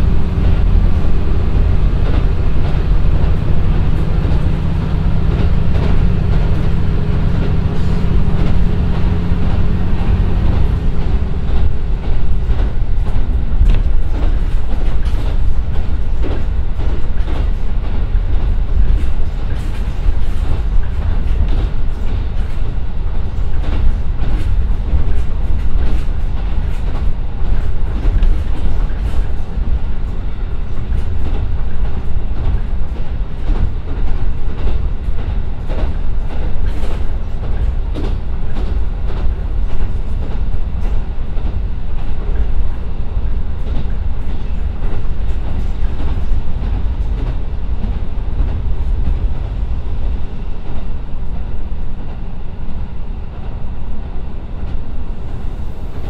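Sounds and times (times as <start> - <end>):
diesel railcar rumble: 0.0 - 56.0.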